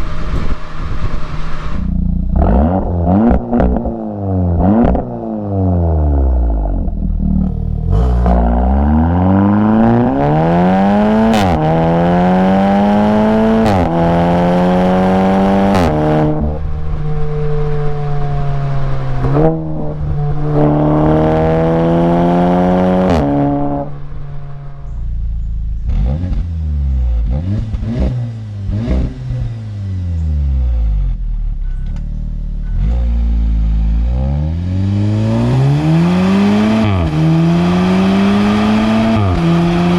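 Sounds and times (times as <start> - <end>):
car engine revving through upshifts: 0.0 - 25.0, 25.9 - 30.8, 32.6 - 39.9
exhaust crack: 0.0 - 39.9.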